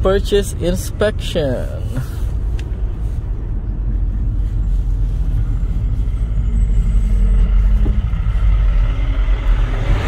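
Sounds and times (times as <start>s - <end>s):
engine and road rumble: 0.0s - 10.0s.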